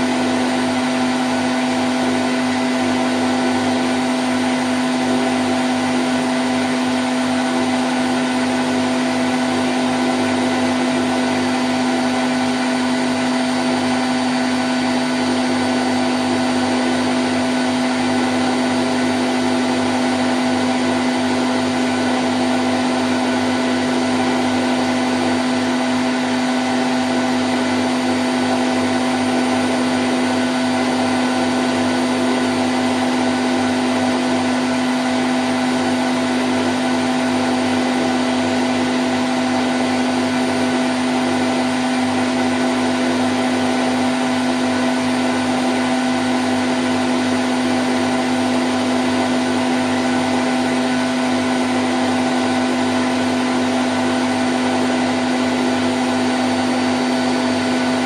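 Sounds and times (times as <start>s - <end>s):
washing machine spin whirring: 0.0s - 58.0s.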